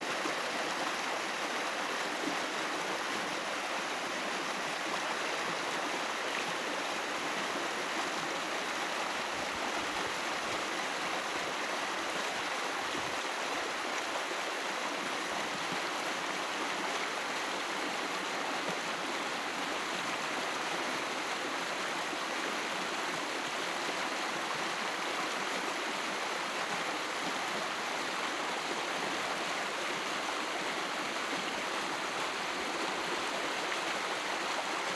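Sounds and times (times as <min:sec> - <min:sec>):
stream babbling over stones: 0:00.0 - 0:34.9.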